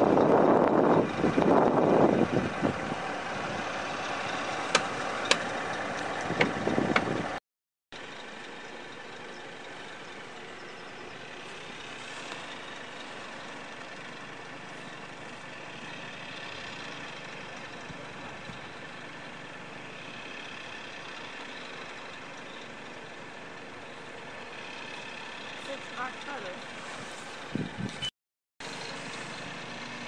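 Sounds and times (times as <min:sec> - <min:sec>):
truck engine idling: 0:00.0 - 0:07.4, 0:08.0 - 0:30.0.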